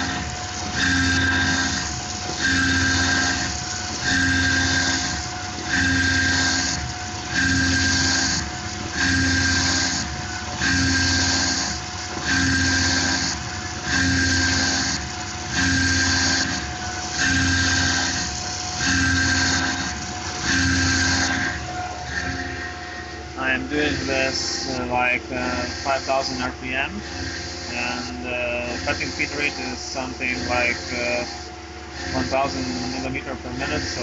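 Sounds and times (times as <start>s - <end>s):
mill cutting aluminum: 0.0s - 34.0s
spindle whine: 0.0s - 34.0s.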